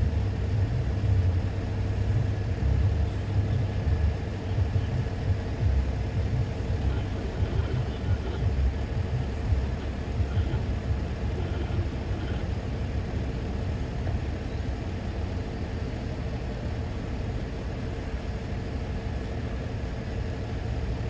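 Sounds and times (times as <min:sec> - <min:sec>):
diesel locomotive idling: 0:00.0 - 0:21.0
faint constant hum: 0:00.0 - 0:21.0.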